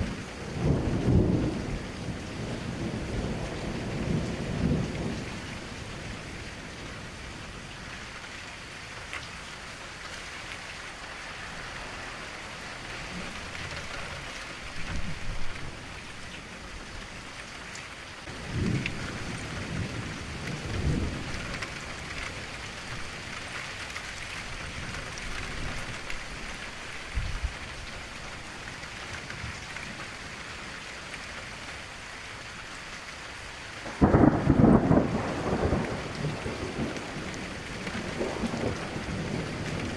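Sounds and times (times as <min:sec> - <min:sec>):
gentle rain on a window: 0:00.0 - 0:39.9.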